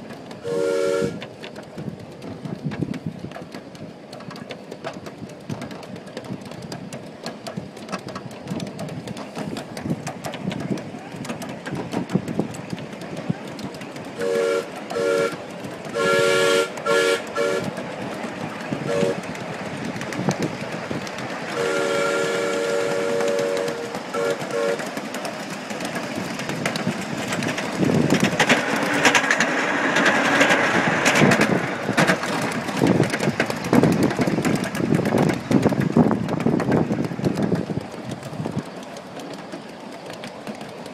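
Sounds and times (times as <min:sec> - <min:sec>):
miniature locomotive clattering: 0:00.0 - 0:40.9.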